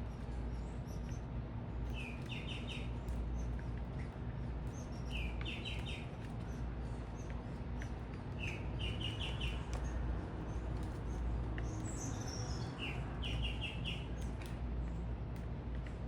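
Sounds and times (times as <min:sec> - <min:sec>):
songbirds singing: 0:00.0 - 0:15.9.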